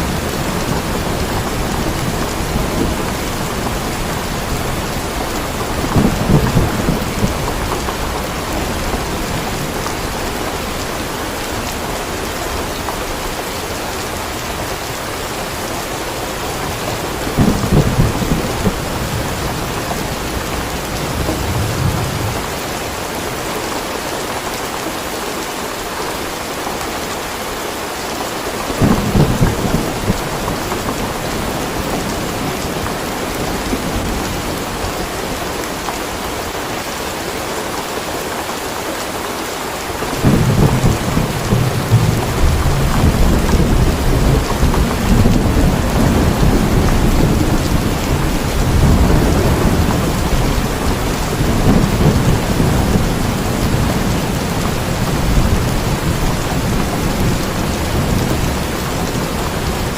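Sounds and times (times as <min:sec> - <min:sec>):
thunder rumbling: 0:00.0 - 0:23.7, 0:28.7 - 0:36.6, 0:39.9 - 0:59.9
steady heavy rain: 0:00.0 - 0:59.9.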